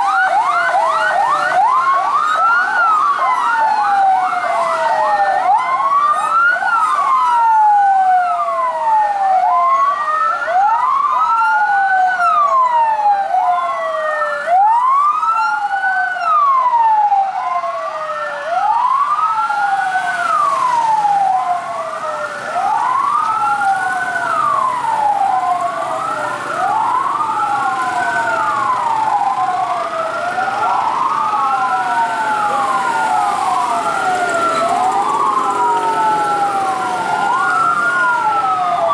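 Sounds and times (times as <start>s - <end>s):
fire truck sirens wailing: 0.0s - 38.9s.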